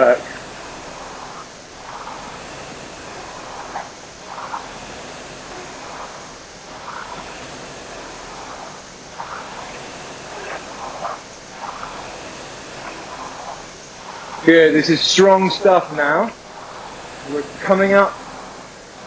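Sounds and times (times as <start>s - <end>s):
rowing machine fan whirring: 0.0s - 19.0s.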